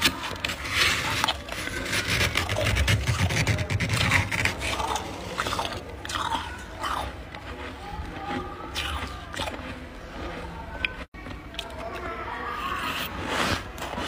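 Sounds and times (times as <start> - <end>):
crunchy chewing of frost: 0.0 - 14.0.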